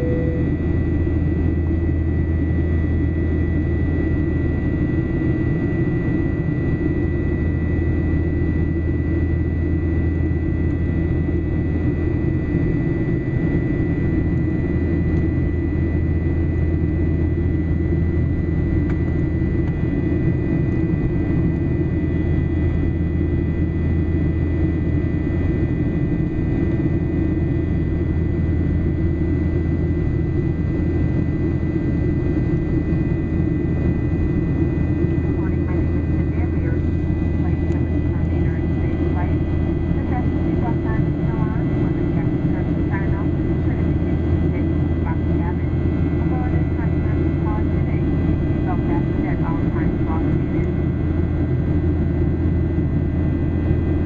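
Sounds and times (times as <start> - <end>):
airliner cabin drone: 0.0 - 54.0
faint high engine whine: 0.0 - 54.0.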